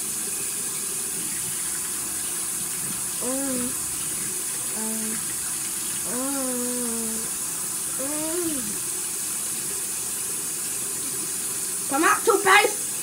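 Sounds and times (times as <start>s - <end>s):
tap water running into basin: 0.0s - 13.0s.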